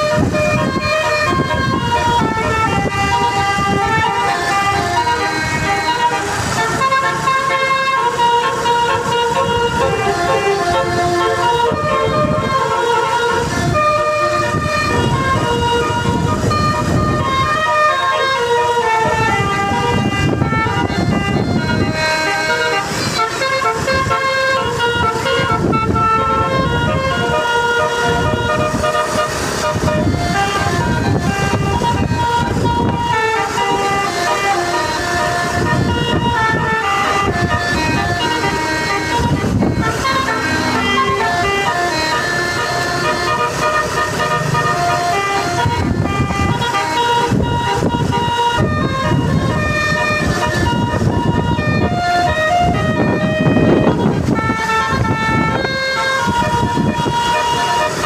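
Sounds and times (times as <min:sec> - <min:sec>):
musical bus horn melody: 0:00.0 - 0:58.0.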